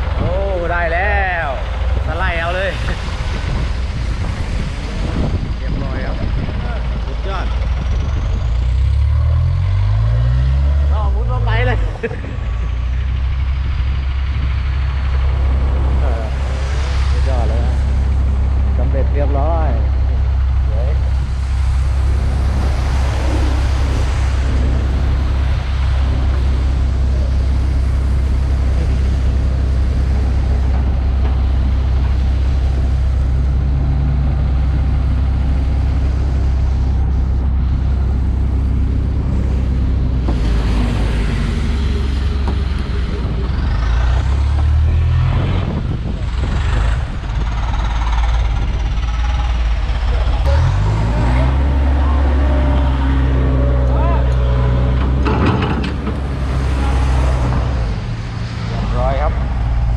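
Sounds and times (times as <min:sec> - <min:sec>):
diesel engine running: 0:00.0 - 0:59.9
rising whine: 0:00.0 - 0:59.9.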